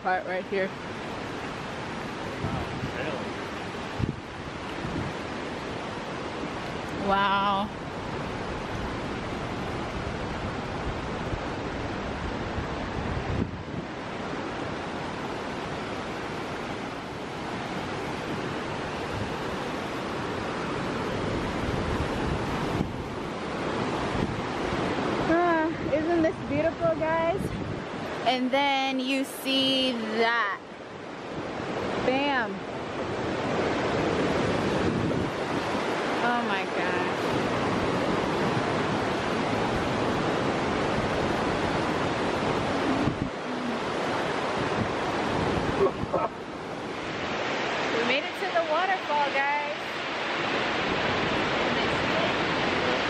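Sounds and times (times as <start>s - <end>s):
creek rushing over rocks: 0.0s - 53.0s.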